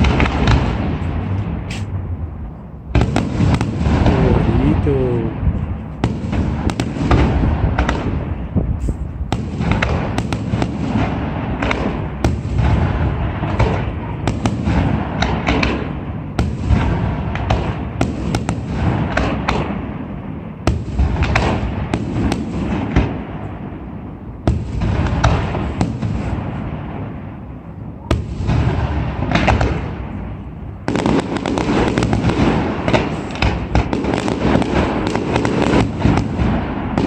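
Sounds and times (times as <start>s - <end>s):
fireworks bursts and cracks: 0.0s - 2.3s, 2.9s - 37.0s
loud fireworks bangs: 0.0s - 37.0s.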